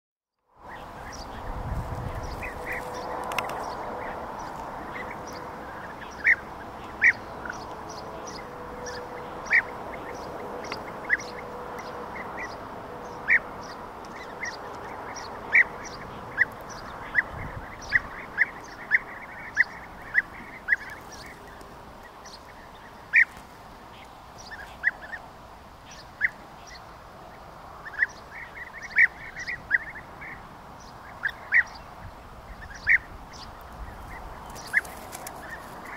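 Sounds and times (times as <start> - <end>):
birds calling: 0.6 - 35.9.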